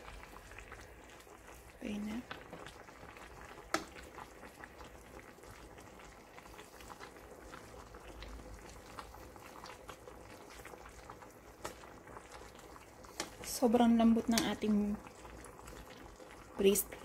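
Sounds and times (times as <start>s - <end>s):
food bubbling in a pan: 0.0s - 17.0s.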